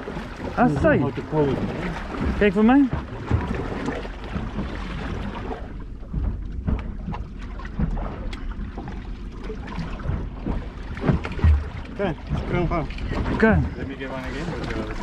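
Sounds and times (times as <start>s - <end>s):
boat rocking: 0.0s - 15.0s
low rumble: 0.0s - 15.0s
sea waves: 0.0s - 15.0s.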